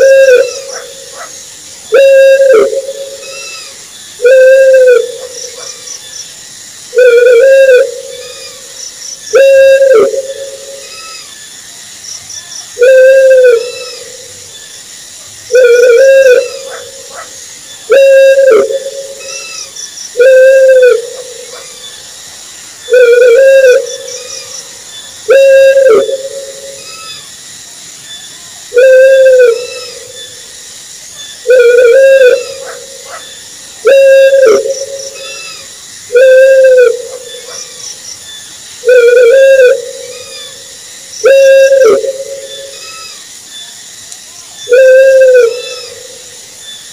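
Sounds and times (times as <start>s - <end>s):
owl calling: 0.0s - 6.0s, 6.9s - 11.4s, 12.8s - 14.5s, 15.5s - 22.1s, 22.8s - 27.3s, 28.7s - 30.4s, 31.4s - 43.2s, 44.6s - 46.2s.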